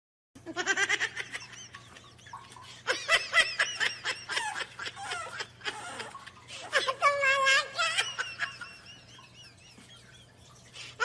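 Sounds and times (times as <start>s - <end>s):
person giggling: 0.4s - 11.0s.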